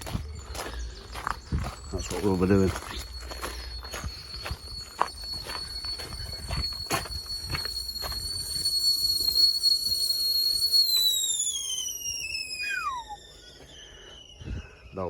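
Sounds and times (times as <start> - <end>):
whistling kettle: 0.0 - 15.0.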